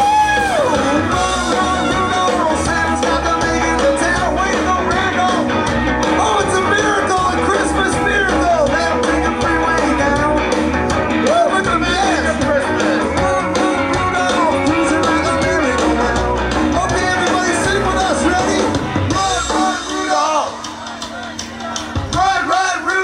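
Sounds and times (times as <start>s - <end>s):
bass line: 0.0s - 23.0s
live rock band playing: 0.0s - 23.0s
person singing: 0.0s - 23.0s.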